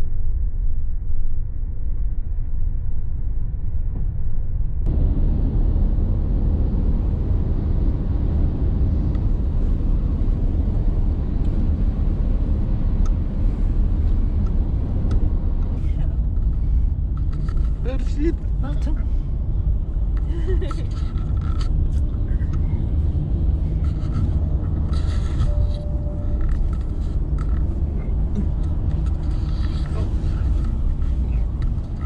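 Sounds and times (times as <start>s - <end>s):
road and engine rumble in van: 0.0s - 32.0s.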